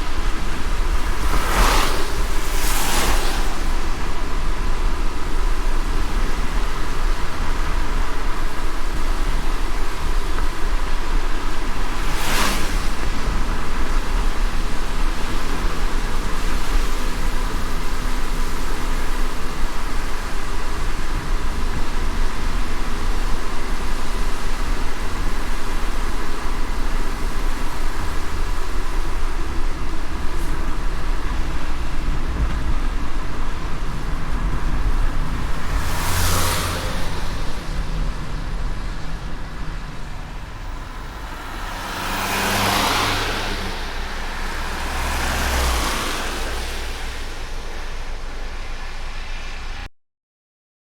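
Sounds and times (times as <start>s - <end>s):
car engine and tyres on wet road: 0.0s - 49.9s
rain hiss: 0.0s - 49.9s.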